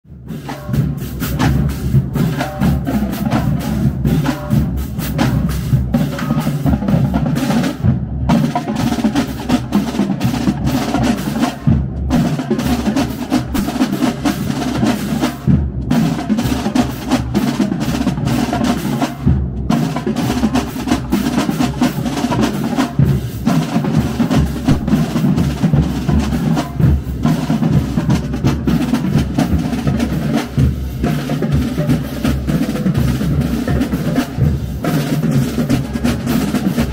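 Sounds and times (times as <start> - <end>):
snare drumline playing cadence: 0.2 - 36.9.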